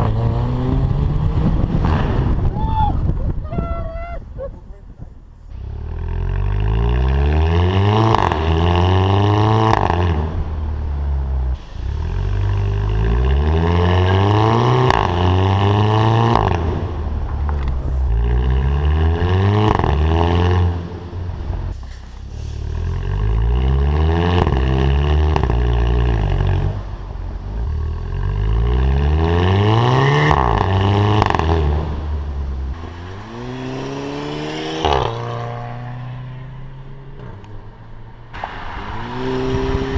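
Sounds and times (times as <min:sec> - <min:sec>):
car engine accelerating hard: 0:05.5 - 0:21.8, 0:22.4 - 0:37.7, 0:38.4 - 0:39.9.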